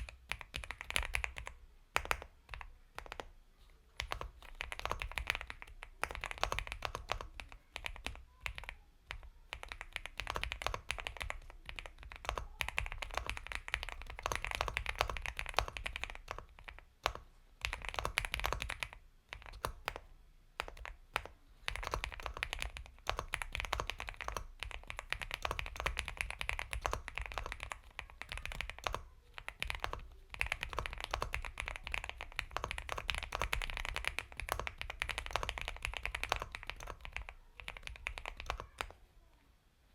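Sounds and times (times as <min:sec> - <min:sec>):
mechanical keyboard typing: 0:00.0 - 0:03.3, 0:04.0 - 0:39.0.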